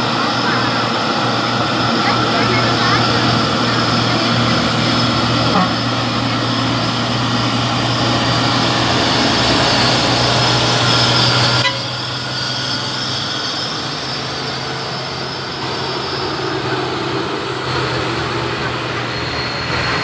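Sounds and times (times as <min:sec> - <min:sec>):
heavy truck engine droning: 0:00.0 - 0:20.0.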